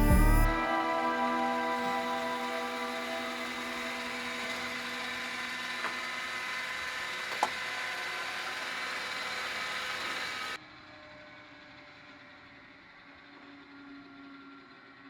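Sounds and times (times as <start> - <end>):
sawmill machine whine: 0.0 - 15.0.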